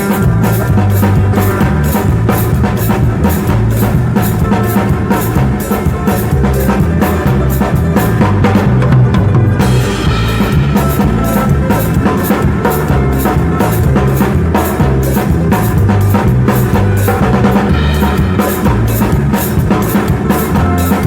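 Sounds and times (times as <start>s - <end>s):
drum kit beat: 0.0s - 21.0s
low bass line: 0.0s - 21.0s.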